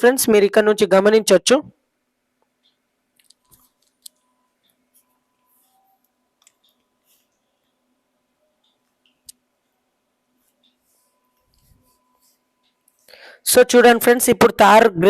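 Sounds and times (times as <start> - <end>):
faint steady hum: 1.6 - 14.8.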